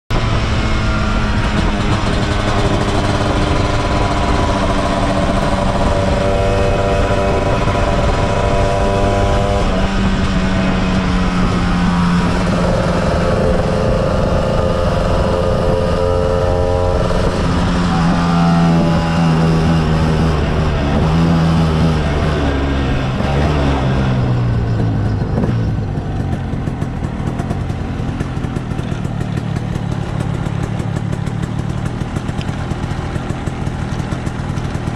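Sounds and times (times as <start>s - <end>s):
two-stroke scooter engine: 0.1s - 34.9s.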